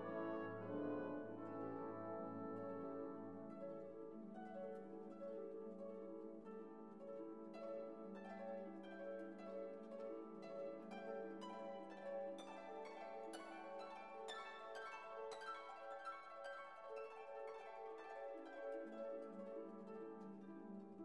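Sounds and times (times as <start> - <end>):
quiet plucked instrumental music: 0.0 - 21.0.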